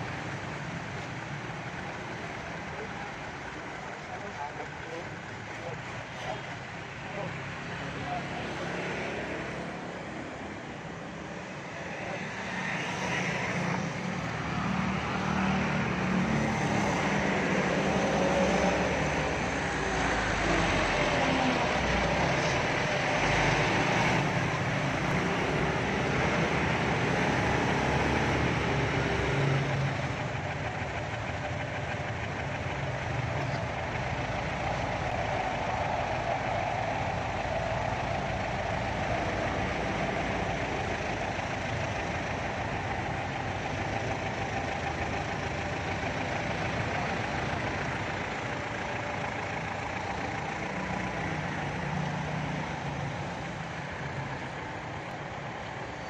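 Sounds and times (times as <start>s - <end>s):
motorbike engines: 0.0s - 56.0s
truck driving past: 0.0s - 56.0s.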